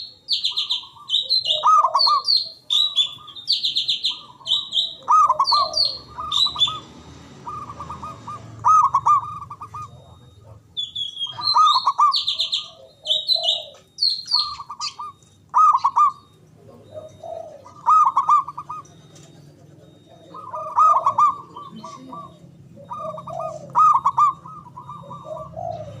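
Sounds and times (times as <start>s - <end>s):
dove cooing: 0.0s - 26.0s
small birds chirping: 0.0s - 26.0s.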